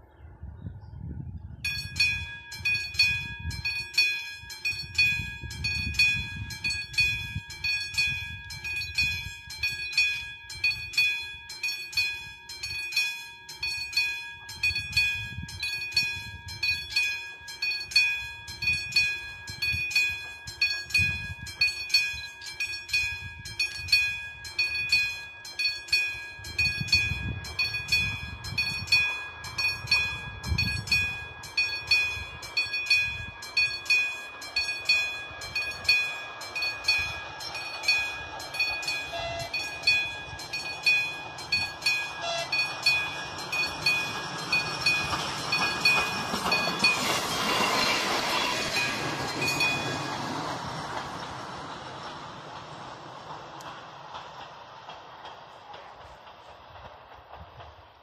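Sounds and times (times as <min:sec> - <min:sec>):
level crossing warning bell ringing: 0:01.7 - 0:51.5.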